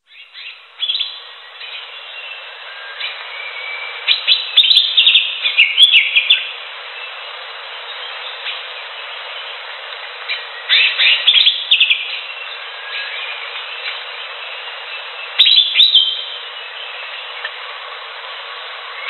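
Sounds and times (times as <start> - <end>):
bird singing rapid chirps: 0.0 - 17.9
background hiss: 0.0 - 19.0.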